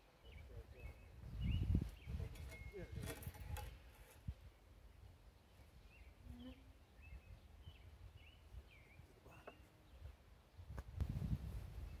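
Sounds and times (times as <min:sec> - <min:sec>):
faint bird chirps: 0:00.2 - 0:03.7, 0:04.4 - 0:10.6.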